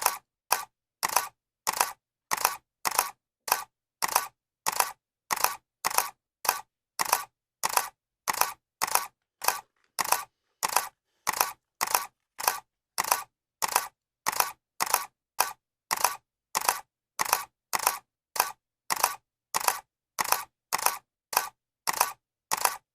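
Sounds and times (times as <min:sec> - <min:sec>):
camera shutter clicking: 0:00.0 - 0:22.8.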